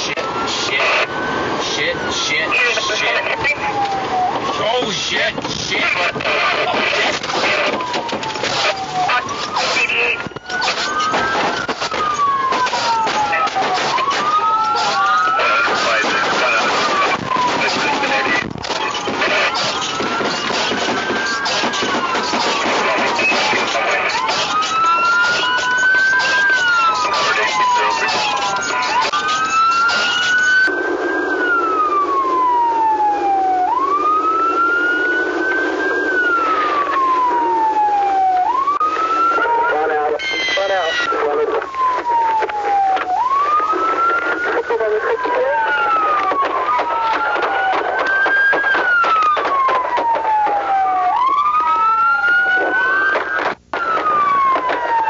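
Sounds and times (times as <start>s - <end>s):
police siren wailing: 0.0s - 55.0s.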